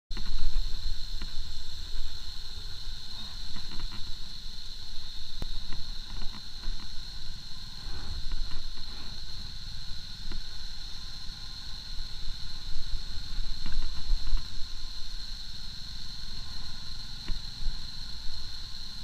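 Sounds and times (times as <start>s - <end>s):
high-pitched whine: 0.1s - 19.0s.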